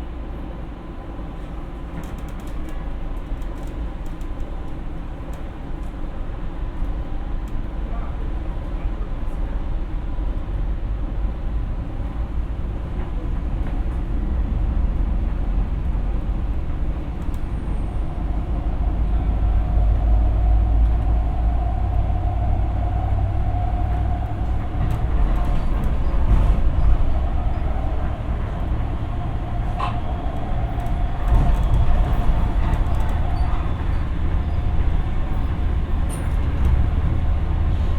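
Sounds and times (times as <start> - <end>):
wheels rumbling on rail: 0.0 - 37.9.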